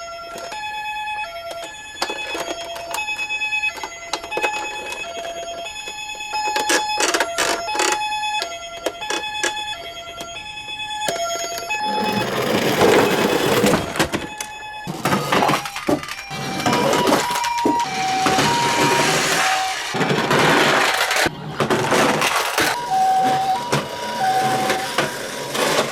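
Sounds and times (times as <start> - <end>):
toy two-tone siren: 0.0 - 25.9
plastic toy cars clicking: 1.4 - 10.3, 11.0 - 25.9.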